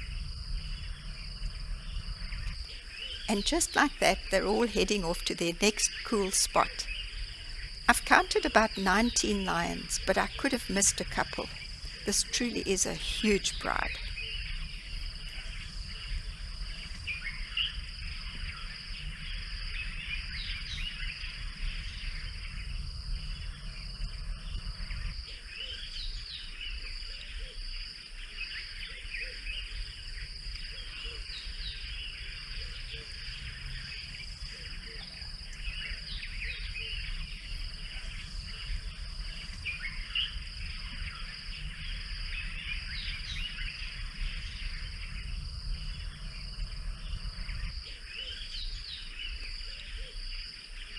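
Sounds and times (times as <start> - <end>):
high insect trill: 0.0 - 50.9.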